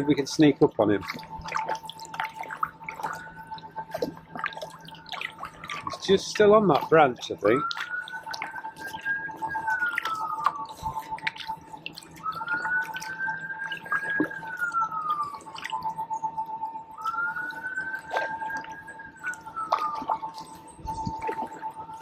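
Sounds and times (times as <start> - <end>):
distant wailing tone: 0.0 - 22.0
steady lower tone: 0.0 - 22.0
water dripping off paddle: 0.0 - 22.0.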